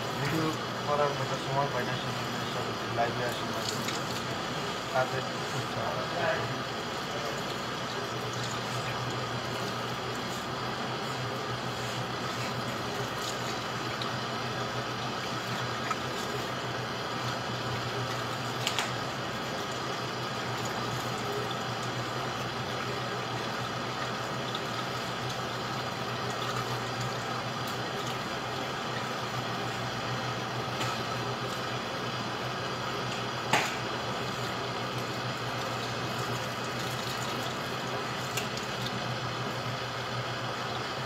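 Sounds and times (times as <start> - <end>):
tap water running into strainer: 2.6 - 5.4, 7.0 - 39.6.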